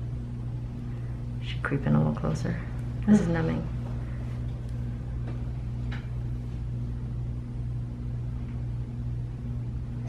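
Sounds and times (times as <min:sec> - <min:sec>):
low equipment hum: 0:00.0 - 0:10.0.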